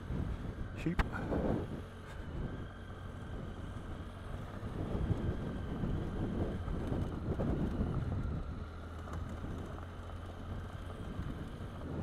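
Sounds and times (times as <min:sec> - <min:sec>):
motorcycle engine running: 0:00.0 - 0:12.0
wind buffeting microphone: 0:00.0 - 0:12.0
tyres on gravel: 0:00.8 - 0:12.0.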